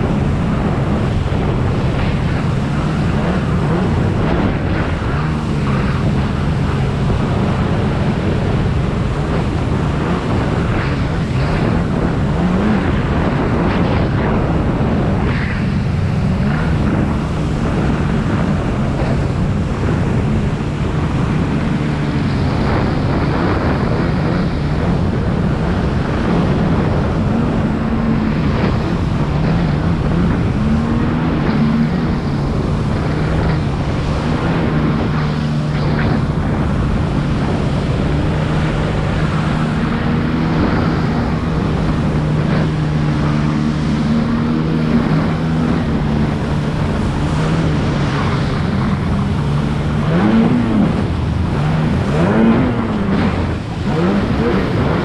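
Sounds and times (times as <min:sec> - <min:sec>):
jet ski engine drone: 0:00.0 - 0:55.0
water rushing past hull: 0:00.0 - 0:55.0.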